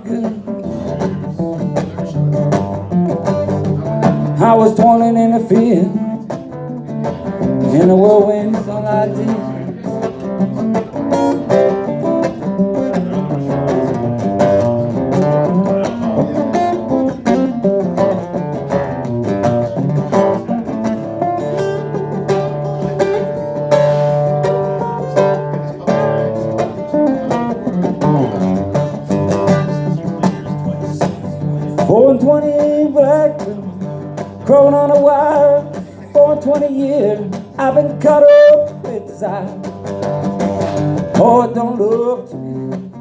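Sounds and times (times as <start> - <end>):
acoustic guitar picking and strumming: 0.0 - 43.0.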